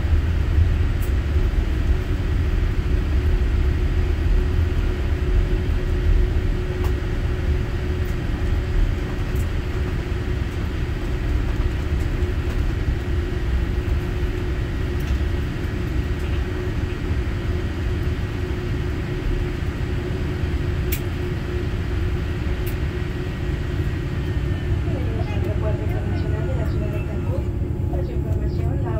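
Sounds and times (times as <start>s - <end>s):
aircraft engines low rumble: 0.0s - 28.9s
steady hum: 0.0s - 28.9s.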